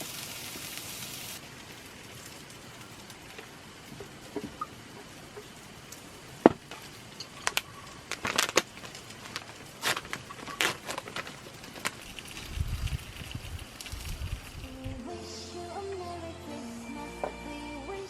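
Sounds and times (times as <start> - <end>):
faint crackling sizzle: 0.0 - 18.0.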